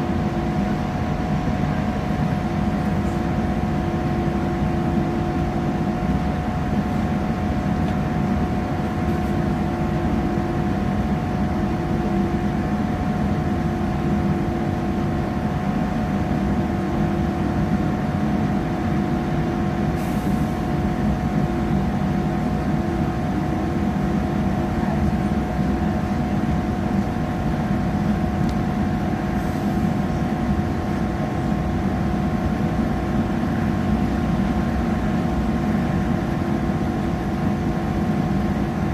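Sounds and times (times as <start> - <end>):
constant engine hum: 0.0 - 38.9.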